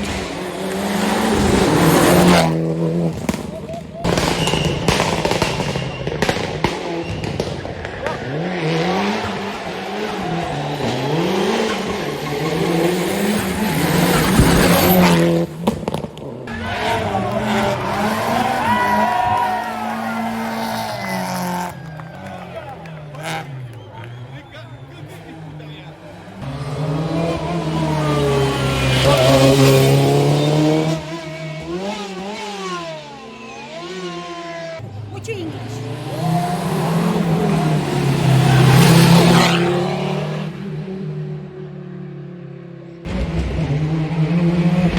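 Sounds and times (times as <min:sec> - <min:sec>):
car engine revving hard: 0:00.0 - 0:03.5, 0:04.1 - 0:22.0, 0:25.2 - 0:34.8, 0:35.6 - 0:41.1.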